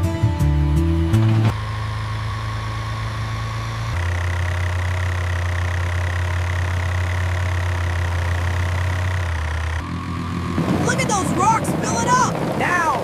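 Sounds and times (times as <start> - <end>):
cartoon construction machine engine: 0.6 - 13.0.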